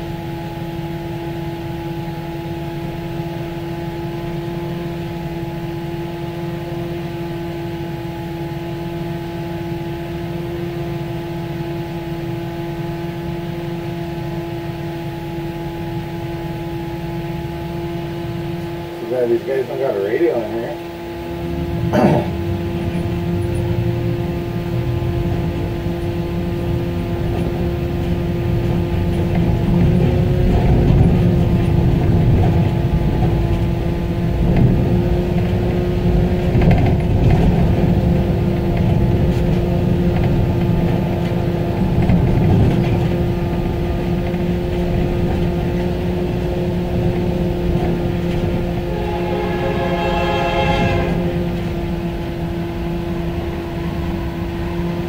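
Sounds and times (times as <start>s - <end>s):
steady hum: 0.0s - 55.0s
truck engine and road rumble: 0.0s - 55.0s.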